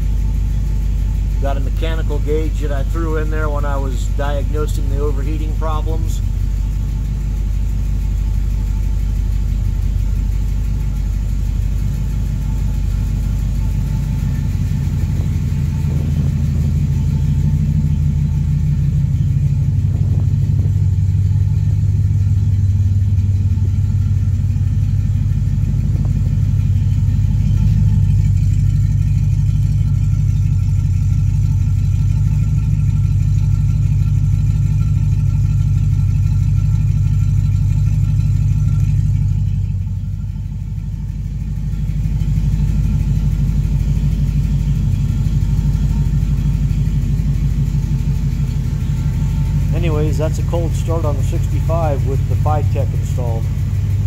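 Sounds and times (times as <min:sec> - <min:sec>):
car engine idling: 0:00.0 - 0:54.0
engine ticking: 0:00.0 - 0:54.0.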